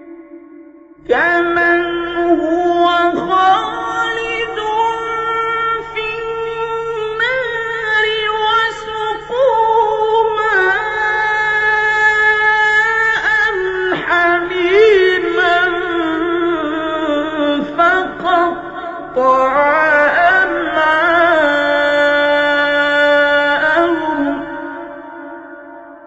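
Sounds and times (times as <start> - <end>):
man chanting recitation: 0.0 - 25.5.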